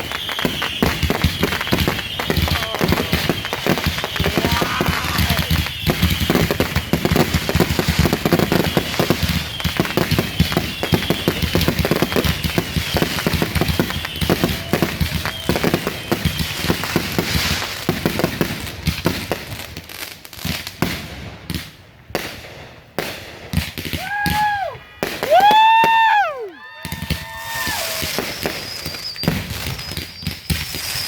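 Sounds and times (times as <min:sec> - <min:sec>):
fireworks crackling bangs: 0:00.0 - 0:31.0.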